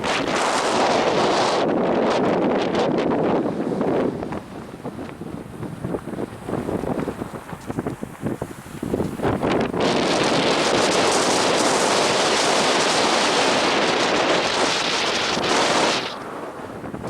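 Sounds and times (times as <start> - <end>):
wind and surf rushing: 0.0 - 17.0.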